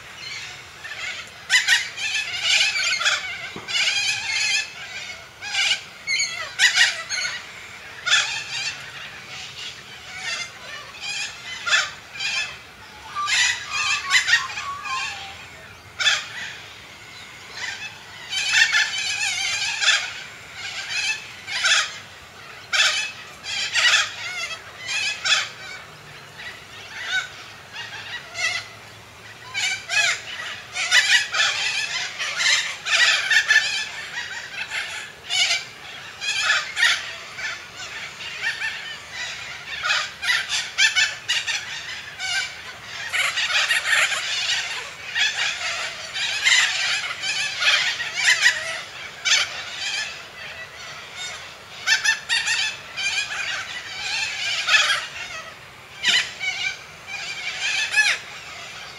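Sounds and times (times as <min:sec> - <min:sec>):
cockatoos calling harshly: 0:00.0 - 0:58.9.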